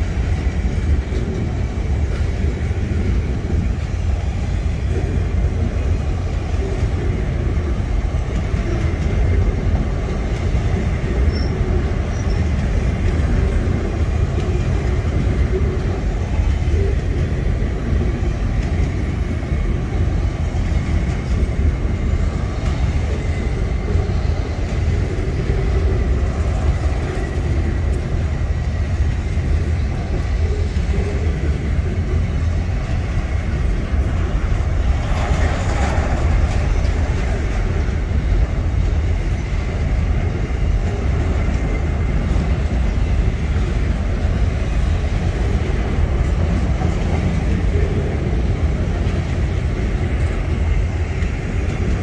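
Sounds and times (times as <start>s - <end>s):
freight train wheels rumbling on rail: 0.0s - 52.0s
rush of noise: 0.0s - 52.0s.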